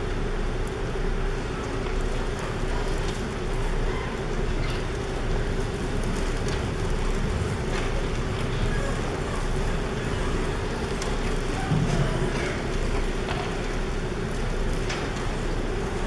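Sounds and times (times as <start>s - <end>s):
audience rustles and clicks: 0.0s - 16.0s
steady hum and hiss: 0.0s - 16.0s.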